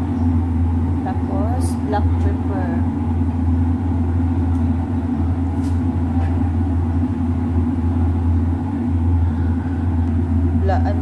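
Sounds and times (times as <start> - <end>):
loud low droning hum: 0.0 - 11.0.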